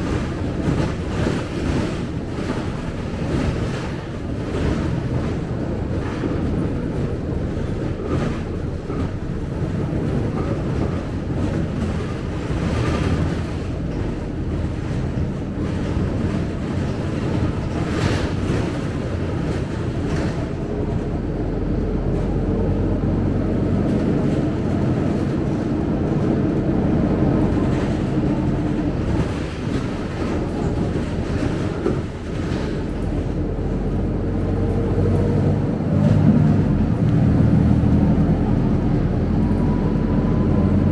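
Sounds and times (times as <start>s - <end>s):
bus diesel engine rumble: 0.0s - 40.9s.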